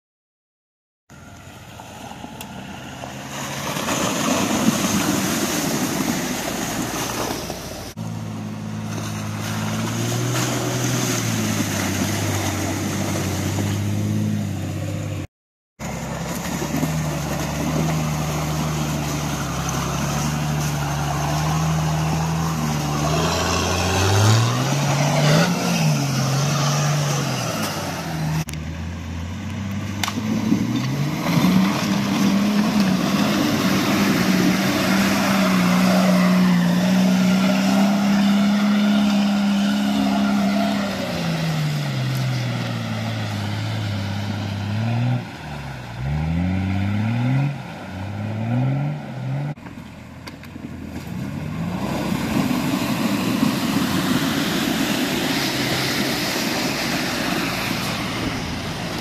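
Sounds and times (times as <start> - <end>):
mud and water churning: 1.2 - 15.2, 15.8 - 59.0
off-road engines revving: 1.4 - 59.0.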